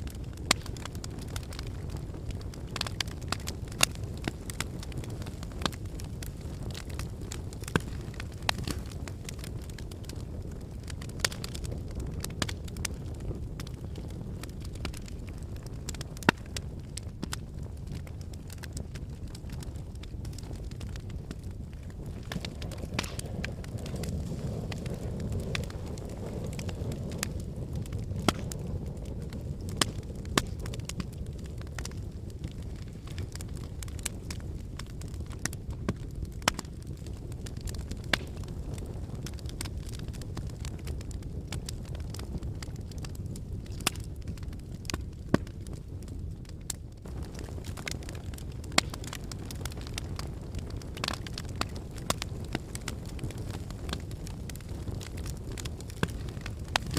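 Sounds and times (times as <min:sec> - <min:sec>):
low rumble of flames: 0:00.0 - 0:56.9
sharp pops from fire: 0:00.0 - 0:56.9
wood fire crackling: 0:00.0 - 0:56.9.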